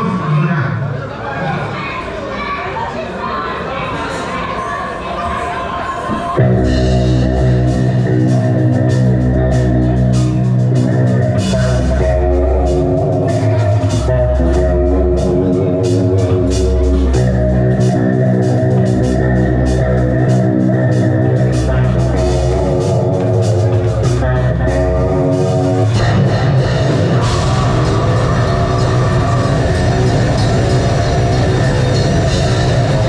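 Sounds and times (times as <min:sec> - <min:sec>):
drums and cymbals: 0:06.0 - 0:33.0
bass: 0:06.4 - 0:33.0
distorted electric guitars: 0:06.4 - 0:33.0.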